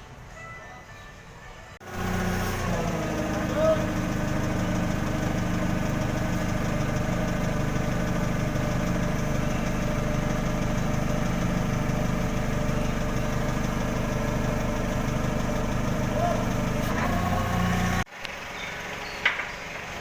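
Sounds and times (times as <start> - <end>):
engine idling: 1.8 - 20.0.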